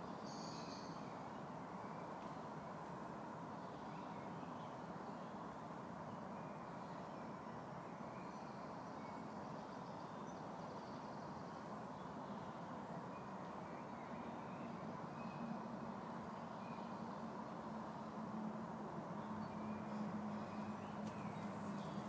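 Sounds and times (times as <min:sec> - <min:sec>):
distant road traffic hum: 0:00.1 - 0:22.0.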